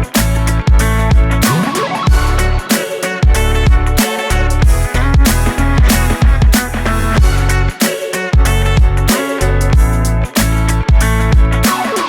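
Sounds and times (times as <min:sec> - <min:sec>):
bass line: 0:00.0 - 0:07.8, 0:08.4 - 0:12.0
electronic drum beat: 0:00.2 - 0:12.0.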